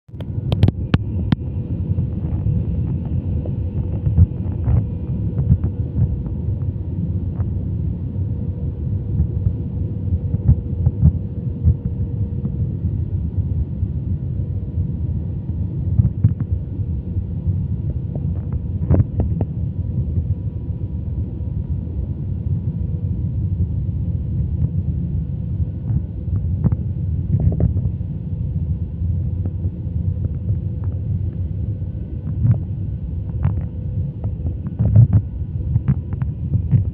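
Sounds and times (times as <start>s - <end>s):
engine and airflow rumble: 0.1s - 36.9s
faint steady hum: 0.1s - 36.9s.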